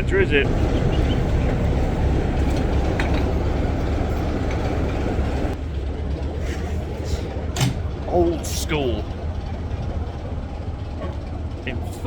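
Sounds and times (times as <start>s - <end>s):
diesel locomotive engine idling: 0.0s - 12.0s.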